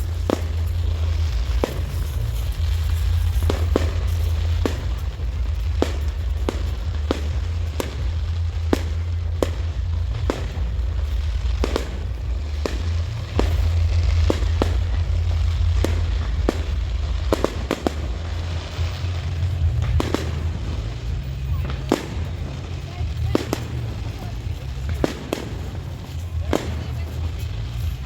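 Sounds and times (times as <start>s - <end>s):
fireworks banging: 0.0s - 28.0s
low rumble: 0.0s - 28.0s.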